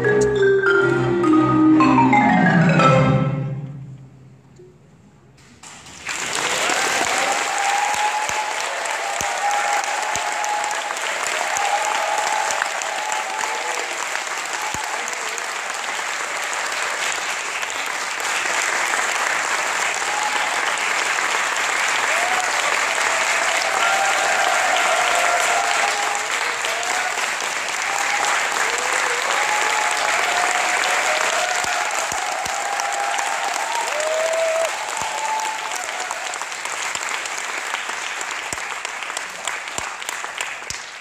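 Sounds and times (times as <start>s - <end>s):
audience applauding: 5.6s - 41.0s
people cheering: 6.0s - 41.0s.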